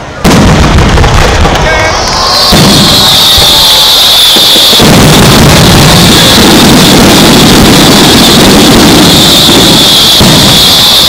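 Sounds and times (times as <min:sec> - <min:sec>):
fireworks bursting in continuous rumble: 0:00.0 - 0:11.0.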